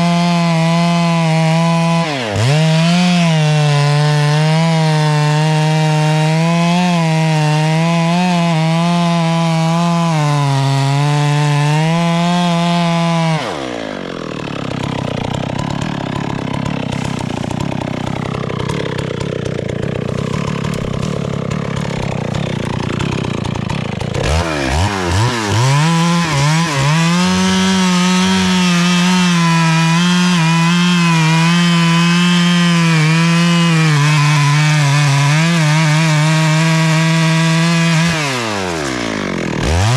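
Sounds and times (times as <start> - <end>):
chainsaw cutting a tree: 0.0 - 39.9.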